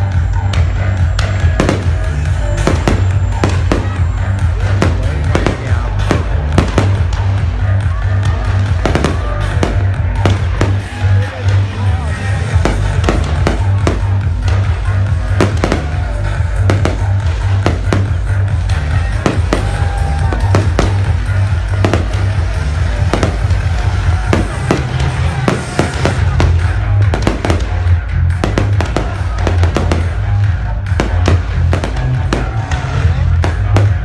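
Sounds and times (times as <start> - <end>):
music with heavy bass: 0.0 - 34.0
fireworks bursting: 0.9 - 7.5, 8.4 - 34.0.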